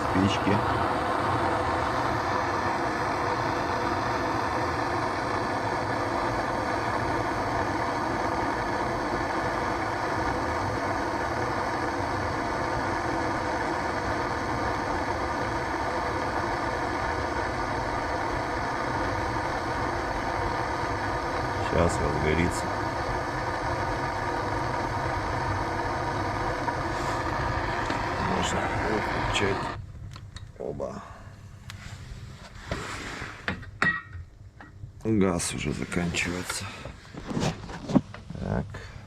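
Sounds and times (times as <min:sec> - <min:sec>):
gas burner roaring: 0:00.0 - 0:39.0.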